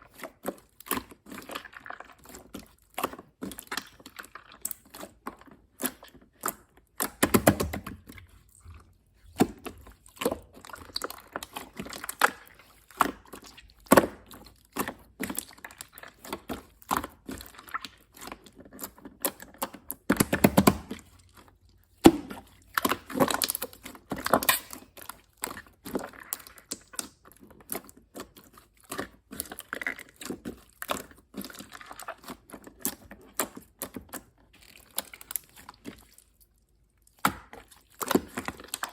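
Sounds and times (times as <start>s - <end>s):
slime squished by hand: 0.0s - 38.9s
slime crackling: 0.1s - 38.9s.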